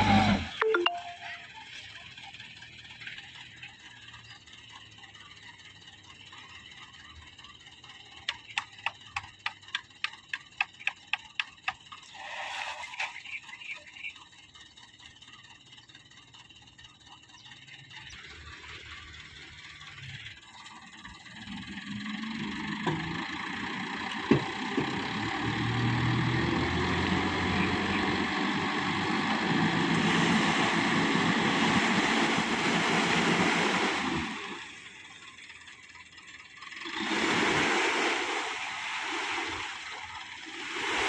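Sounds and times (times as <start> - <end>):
dump truck engine straining: 0.0 - 41.0.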